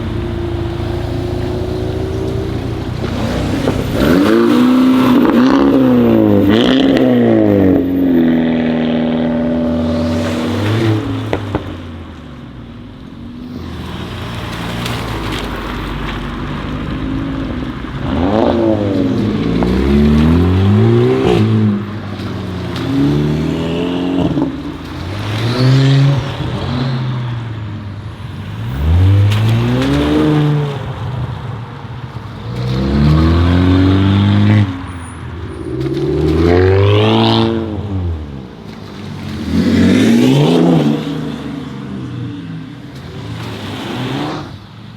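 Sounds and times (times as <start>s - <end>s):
sports car engines revving: 0.0s - 44.9s.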